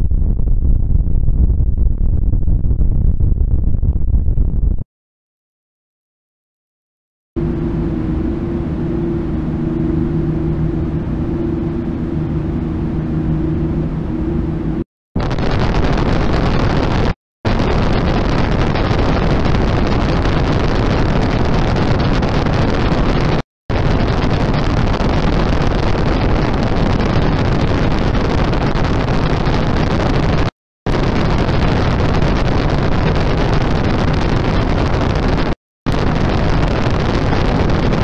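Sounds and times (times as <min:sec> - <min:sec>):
harsh static noise: 0:07.4 - 0:38.0.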